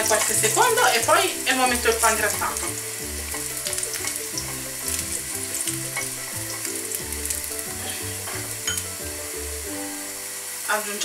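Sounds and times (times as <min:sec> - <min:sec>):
garlic sizzling in oil: 0:00.0 - 0:11.0.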